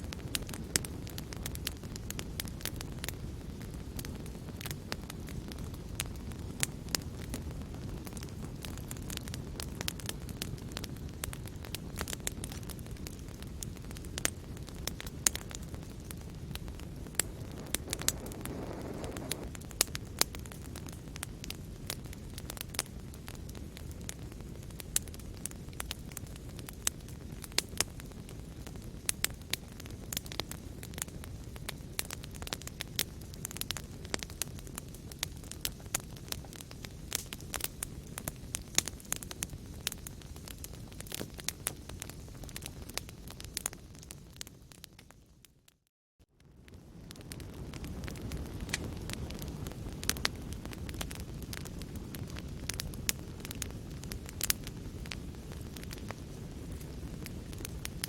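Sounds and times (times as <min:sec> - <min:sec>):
low rush of flame: 0:00.0 - 0:45.1, 0:46.4 - 0:58.0
fire popping and snapping: 0:00.1 - 0:45.5, 0:46.3 - 0:58.0.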